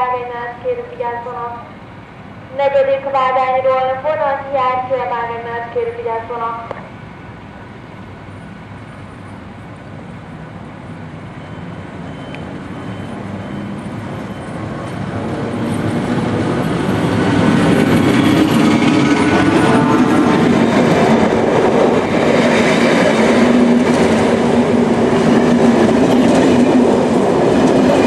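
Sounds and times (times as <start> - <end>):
train passing with rumbling wheels: 0.0 - 28.0.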